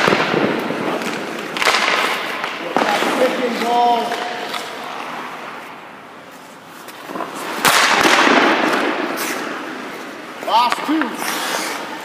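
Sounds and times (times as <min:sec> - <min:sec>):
hockey stick striking puck: 0:00.0 - 0:05.8, 0:06.8 - 0:12.0.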